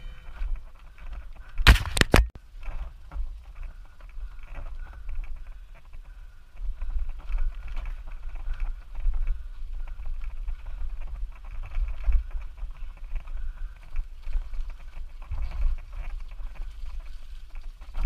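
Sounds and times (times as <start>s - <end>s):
bike rattling over bumps: 0.0s - 18.0s
wind rumble on microphone: 0.0s - 18.0s.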